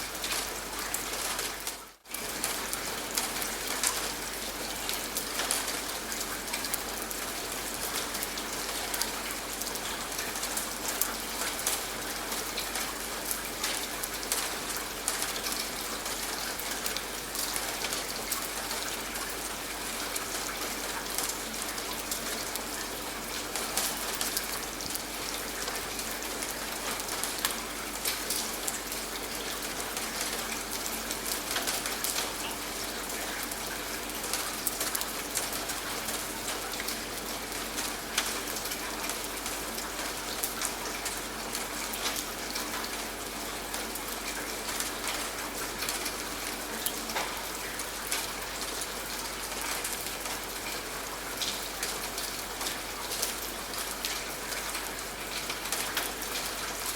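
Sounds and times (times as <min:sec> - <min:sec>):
rain falling: 0:00.0 - 0:56.9
raindrops striking a surface: 0:00.0 - 0:56.9.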